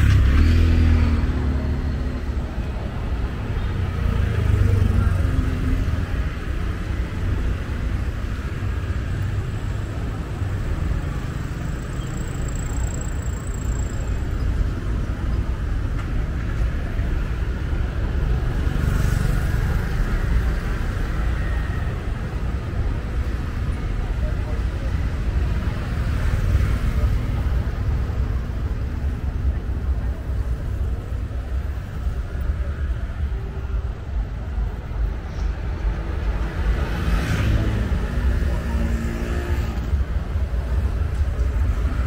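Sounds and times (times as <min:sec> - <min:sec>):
road traffic driving past: 0:00.0 - 0:42.0.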